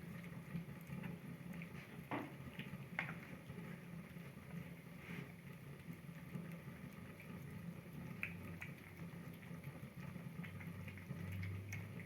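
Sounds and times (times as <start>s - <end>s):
kittens chewing and lapping: 0.0s - 12.0s.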